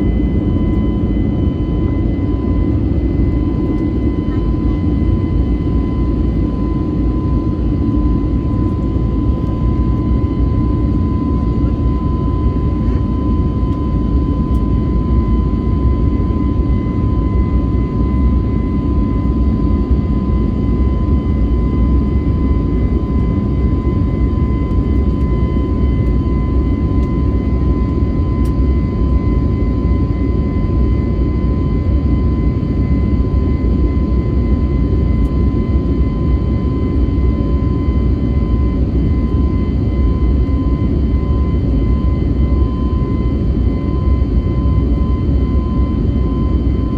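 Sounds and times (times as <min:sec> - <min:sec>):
airplane cabin engine rumble: 0:00.0 - 0:46.9
thin steady engine whine: 0:00.0 - 0:46.9.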